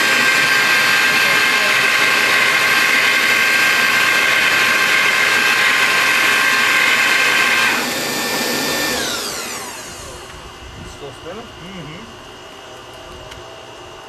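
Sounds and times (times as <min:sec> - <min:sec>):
jet engine high whine: 0:00.0 - 0:14.0.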